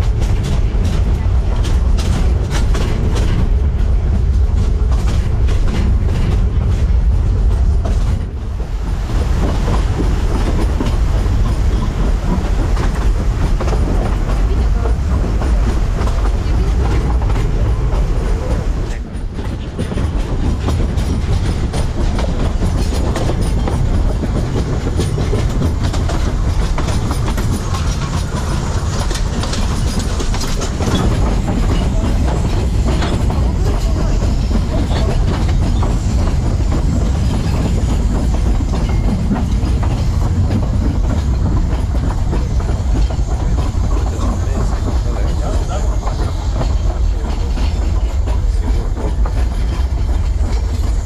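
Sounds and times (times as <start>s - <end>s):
train carriages rumbling: 0.0s - 51.0s
wheels clicking over rail joints: 0.0s - 51.0s.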